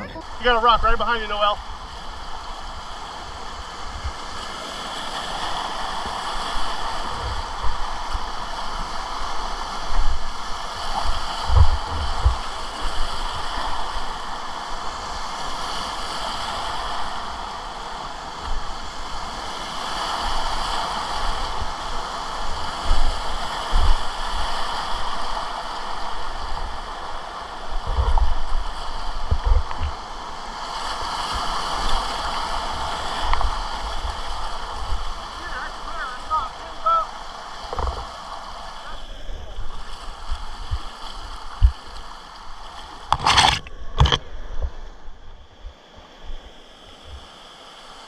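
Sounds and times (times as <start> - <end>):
whitewater river rushing: 0.0 - 44.2.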